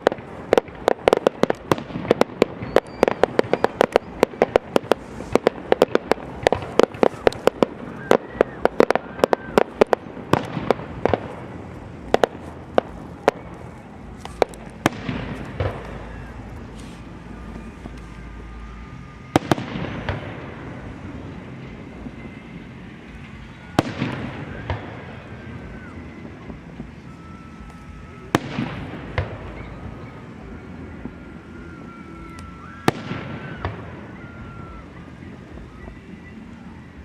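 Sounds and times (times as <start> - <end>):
firework booms with echo: 0.0 - 18.0, 19.3 - 27.0, 27.8 - 31.2, 32.8 - 34.0
fireworks bangs and crackles: 0.0 - 37.0.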